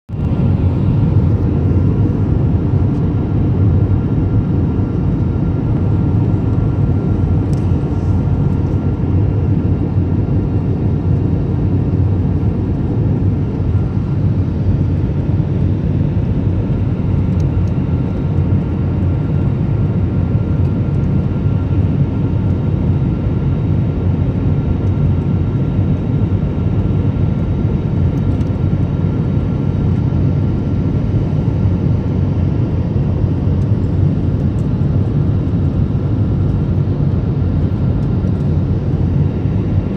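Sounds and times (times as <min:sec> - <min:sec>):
airliner engine and airflow rush: 0:00.1 - 0:39.9.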